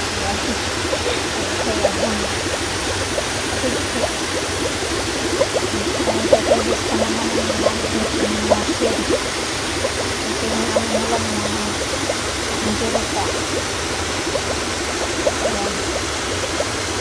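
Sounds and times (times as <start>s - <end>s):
seawater lapping at shoreline: 0.0s - 17.0s.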